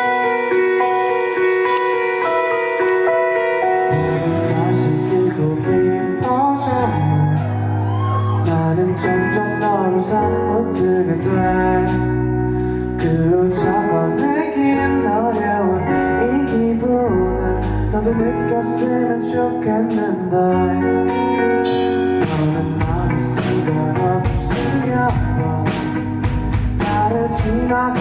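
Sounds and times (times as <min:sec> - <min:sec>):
drums: 0:00.0 - 0:20.4, 0:21.0 - 0:28.0
bass guitar: 0:00.0 - 0:28.0
gliding melodic line: 0:00.0 - 0:28.0
guitar chords: 0:00.0 - 0:28.0.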